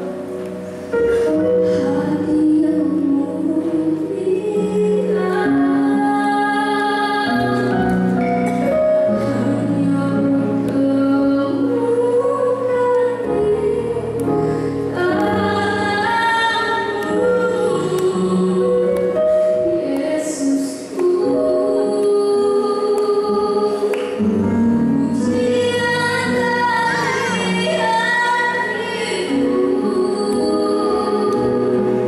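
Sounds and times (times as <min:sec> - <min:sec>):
musical accompaniment: 0:00.0 - 0:32.0
woman singing slow song: 0:01.1 - 0:32.0.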